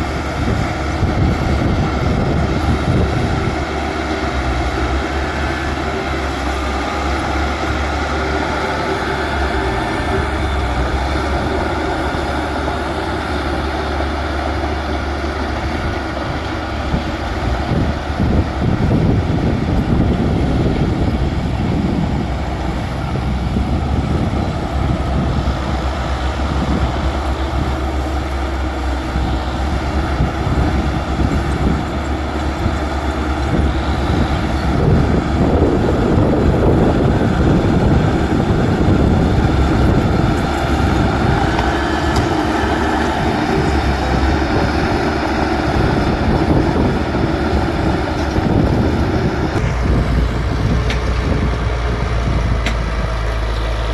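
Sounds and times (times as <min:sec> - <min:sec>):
bulldozer diesel engine under load: 0:00.0 - 0:53.9.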